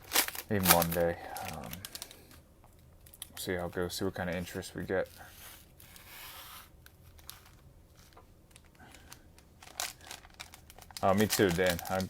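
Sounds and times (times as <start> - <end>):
rustling of plastic card packs: 0.0 - 2.4, 3.0 - 12.0.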